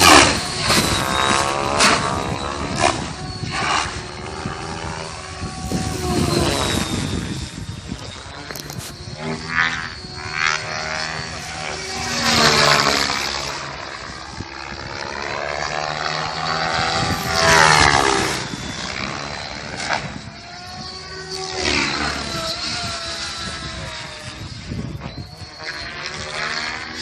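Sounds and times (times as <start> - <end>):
rc helicopter rotor whine: 0.0 - 27.0.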